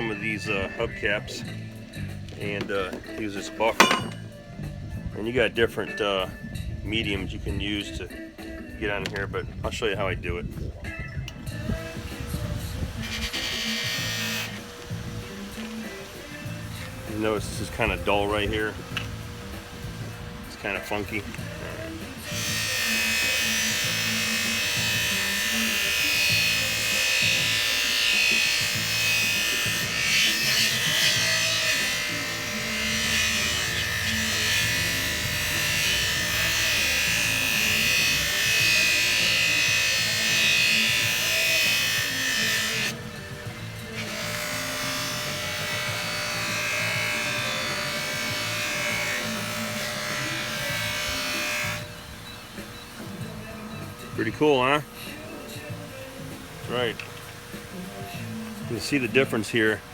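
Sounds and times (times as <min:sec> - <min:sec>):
buffing wheel hissing on metal: 0:00.0 - 0:09.3, 0:10.7 - 0:59.9
background music: 0:00.0 - 0:59.9.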